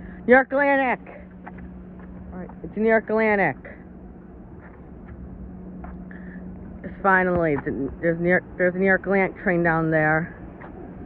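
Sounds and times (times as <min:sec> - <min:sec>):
constant low hum: 0:00.0 - 0:11.0
steady low rumble: 0:00.0 - 0:11.0.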